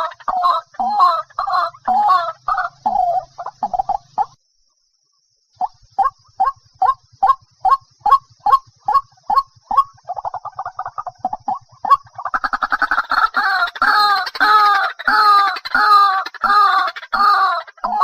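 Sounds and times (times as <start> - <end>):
harsh bird croaking: 0.0 - 4.4, 5.6 - 18.0.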